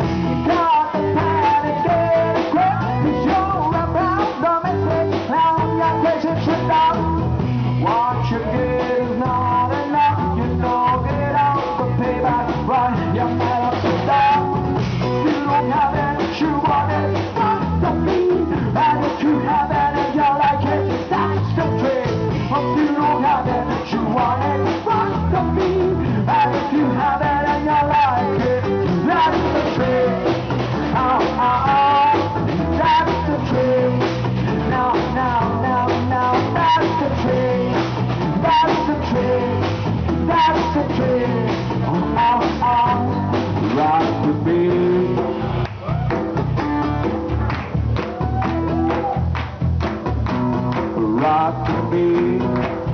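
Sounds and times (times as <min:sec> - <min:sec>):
person singing: 0:00.0 - 0:46.2, 0:50.6 - 0:52.9
acoustic guitar: 0:00.0 - 0:52.9.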